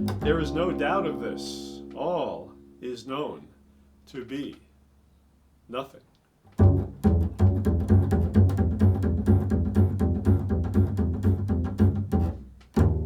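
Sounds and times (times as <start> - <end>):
low string notes: 0.0 - 4.6, 6.6 - 13.0.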